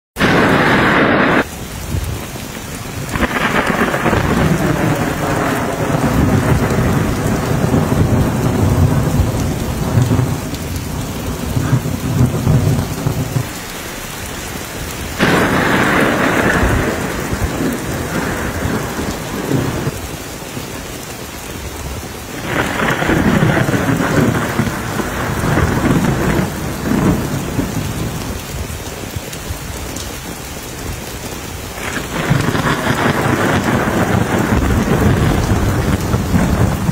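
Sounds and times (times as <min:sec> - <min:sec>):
thunder rolling: 0:00.2 - 0:13.6, 0:14.5 - 0:20.0, 0:22.3 - 0:28.4, 0:31.8 - 0:36.9
heavy rain pouring: 0:00.2 - 0:36.9.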